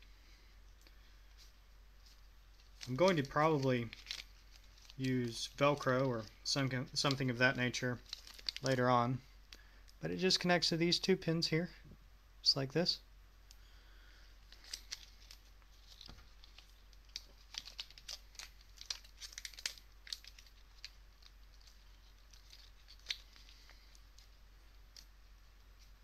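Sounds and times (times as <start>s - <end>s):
rustles of handling: 0.2s - 10.0s, 14.0s - 26.0s.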